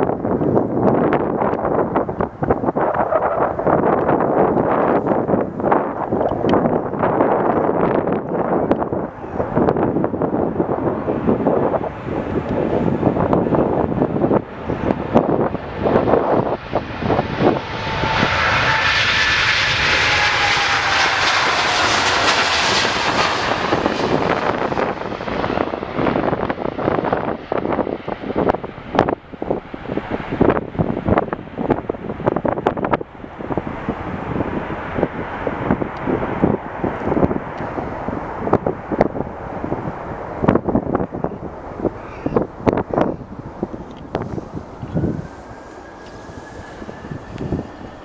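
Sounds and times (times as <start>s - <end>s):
jet engines passing: 0.0s - 48.0s
wind buffeting microphone: 0.0s - 48.0s.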